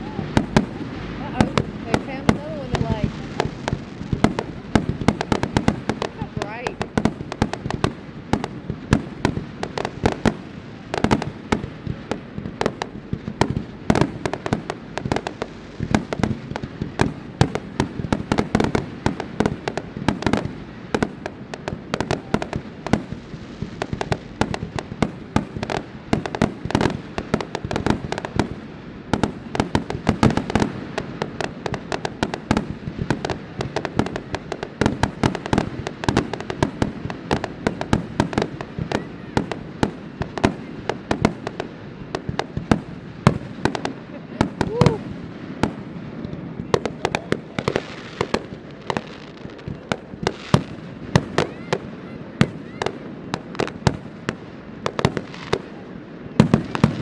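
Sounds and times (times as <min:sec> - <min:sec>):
fireworks bangs and booms: 0:00.0 - 0:57.0.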